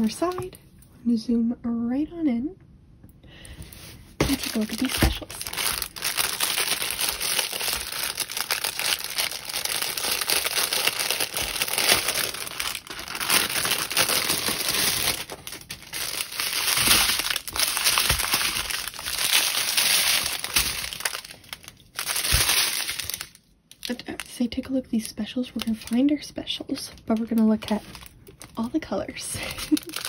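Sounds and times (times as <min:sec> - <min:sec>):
plastic packaging crinkling: 0:04.2 - 0:30.0.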